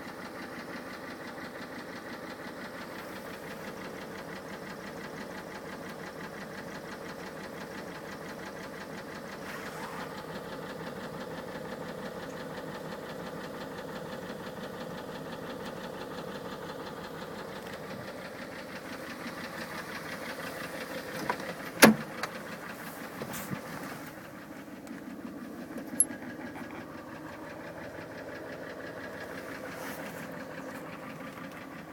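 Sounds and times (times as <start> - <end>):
car engine knocking: 0.0 - 31.9.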